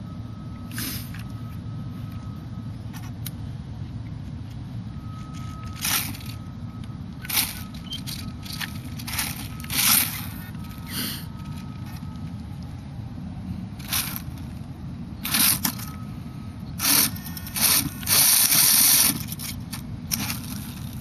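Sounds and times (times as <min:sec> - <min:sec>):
faint thin whine: 0:03.9 - 0:21.0.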